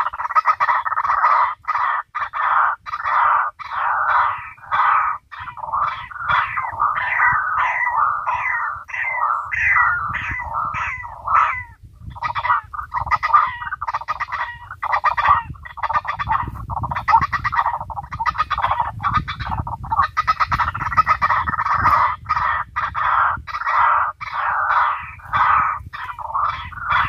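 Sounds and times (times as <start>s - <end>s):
bird calls through loudspeaker: 0.0s - 27.0s.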